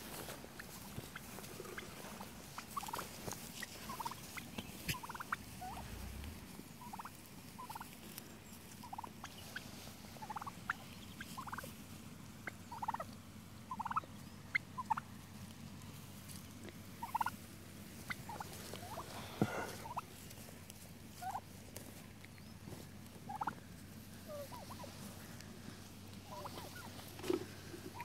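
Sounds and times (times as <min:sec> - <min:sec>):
turkeys giving short calls: 0:00.6 - 0:08.0, 0:08.8 - 0:11.8, 0:12.4 - 0:15.4, 0:16.1 - 0:20.4, 0:21.1 - 0:21.5, 0:22.3 - 0:28.0.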